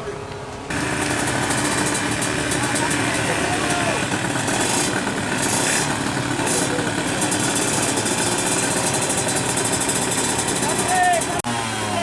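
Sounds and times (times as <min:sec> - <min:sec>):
motorcycle engine idling: 0:00.7 - 0:11.4.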